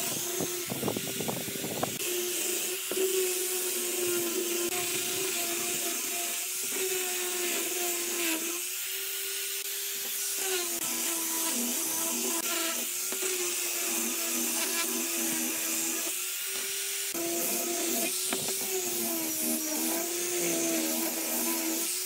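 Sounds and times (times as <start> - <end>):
electric power tool cutting wood: 0.0 - 22.0.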